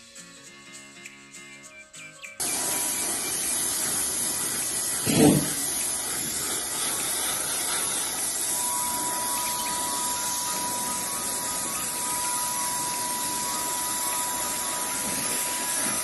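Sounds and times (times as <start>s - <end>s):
paint sprayer hissing: 2.4s - 16.0s.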